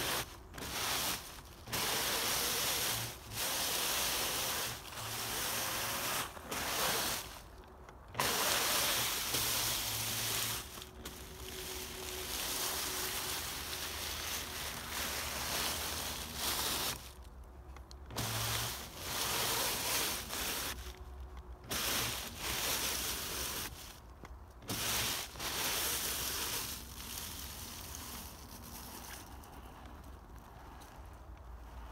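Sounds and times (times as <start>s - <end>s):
dry leaves rustling and crunching: 0.0s - 17.4s, 18.2s - 29.7s.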